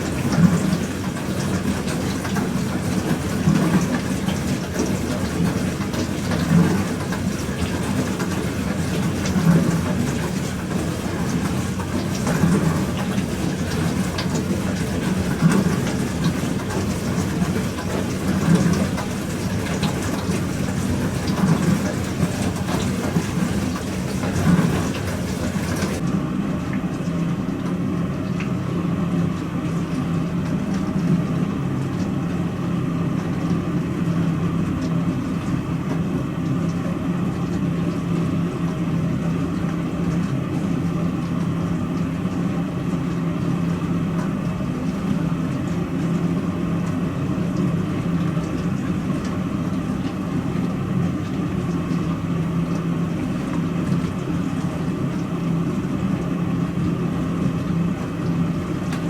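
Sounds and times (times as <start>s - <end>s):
dishwasher pump humming: 0.0s - 59.0s.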